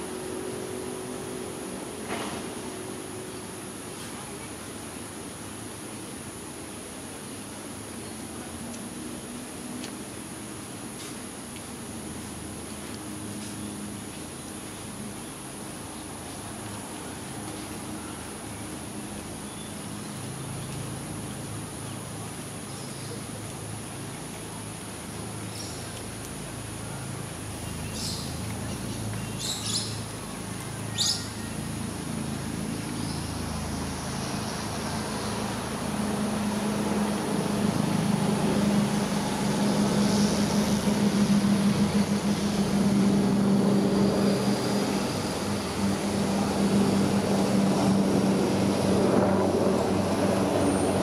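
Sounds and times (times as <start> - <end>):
aircraft engine drone overhead: 0.0 - 51.0.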